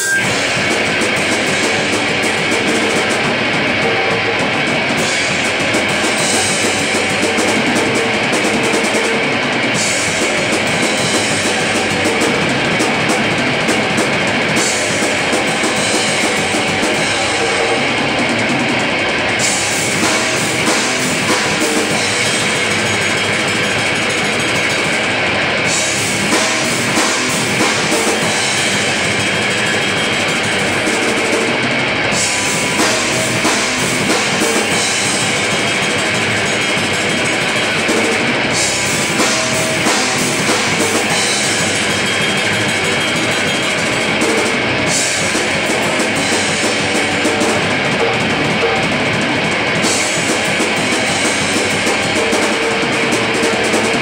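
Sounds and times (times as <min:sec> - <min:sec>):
heavy metal band playing: 0:00.0 - 0:54.0.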